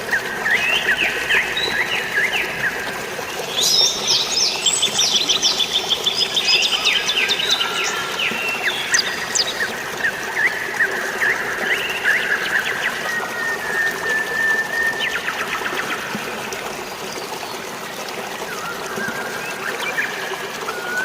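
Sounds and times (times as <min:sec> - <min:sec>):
birds chirping: 0:00.0 - 0:17.6
flowing water: 0:00.0 - 0:21.0.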